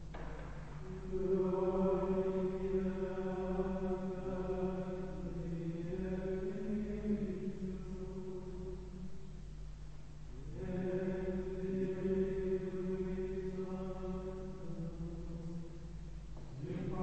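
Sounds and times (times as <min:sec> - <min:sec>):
men chanting unaccompanied: 0:00.9 - 0:08.8, 0:10.4 - 0:15.7, 0:16.5 - 0:17.0.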